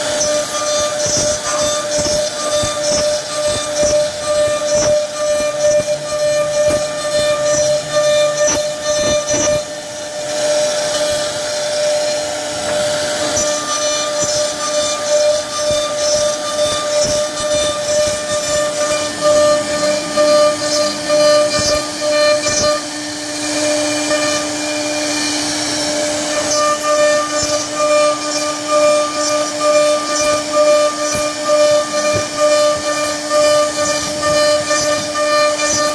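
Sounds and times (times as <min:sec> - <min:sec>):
router bit cutting wood: 0:00.0 - 0:35.9
router spindle whining: 0:00.0 - 0:35.9.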